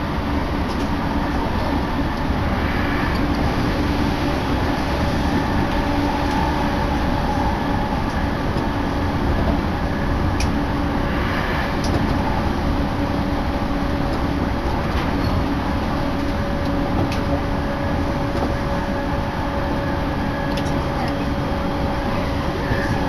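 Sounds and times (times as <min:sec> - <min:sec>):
constant low hum: 0:00.0 - 0:23.0
train wheels rumbling on rails: 0:00.0 - 0:23.0.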